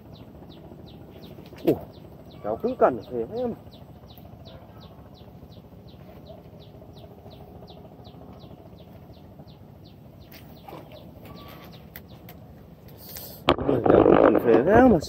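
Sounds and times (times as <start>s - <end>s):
bird chirping: 0.1s - 12.4s.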